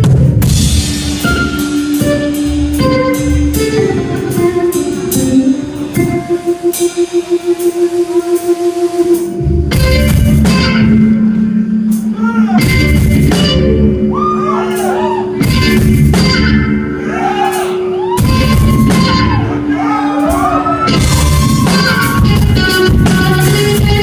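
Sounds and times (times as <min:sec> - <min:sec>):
live rock band playing: 0:00.0 - 0:24.0
pulsing guitar note: 0:00.0 - 0:24.0.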